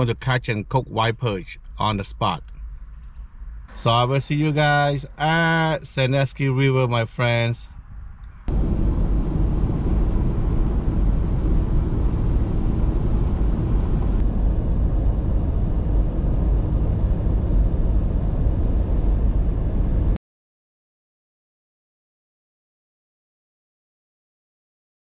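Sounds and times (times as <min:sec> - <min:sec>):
car cabin road and engine noise: 0:00.0 - 0:20.2.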